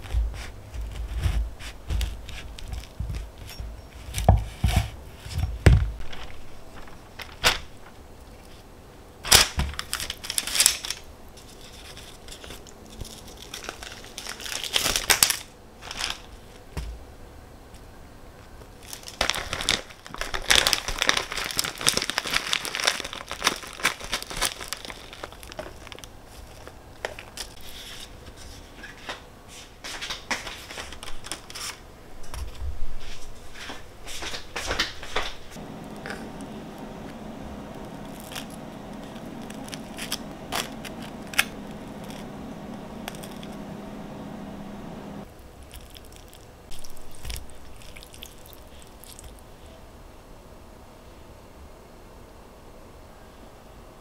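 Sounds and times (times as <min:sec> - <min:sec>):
rustling and crinkling: 0:00.0 - 0:17.0, 0:17.7 - 0:49.8.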